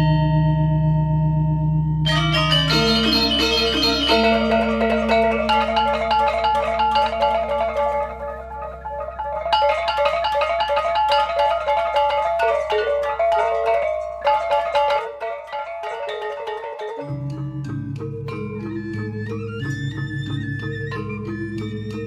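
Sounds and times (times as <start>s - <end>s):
gamelan metallophones playing: 0.0s - 22.0s.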